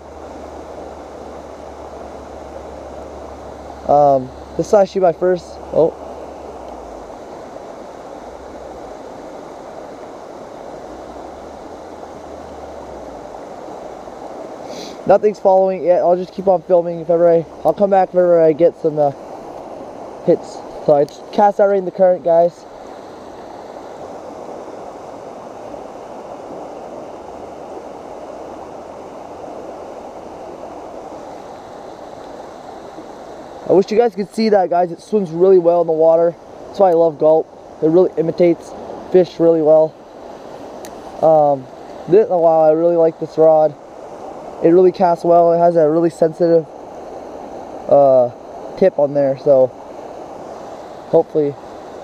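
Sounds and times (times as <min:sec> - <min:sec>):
stream rushing from culvert: 0:00.0 - 0:52.0.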